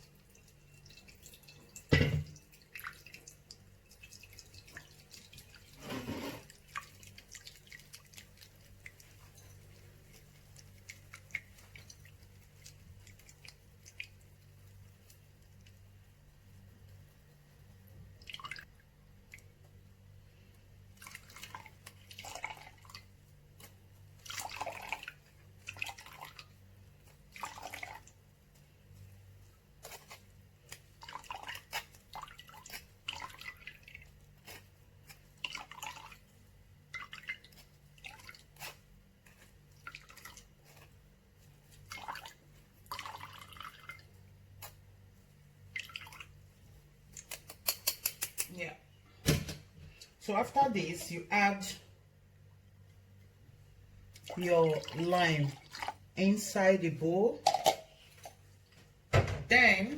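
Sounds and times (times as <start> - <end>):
juice dripping and squelching: 0.0 - 48.7, 52.4 - 56.3
low steady hum: 0.0 - 59.9.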